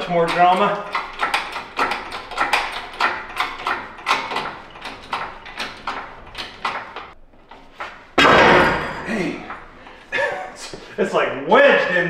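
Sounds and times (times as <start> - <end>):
hydraulic hoist hand pump clanking: 0.0 - 10.1.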